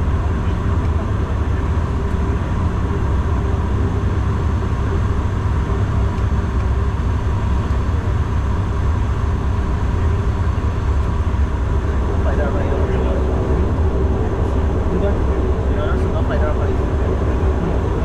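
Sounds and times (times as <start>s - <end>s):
turboprop engine drone in cabin: 0.0s - 18.0s.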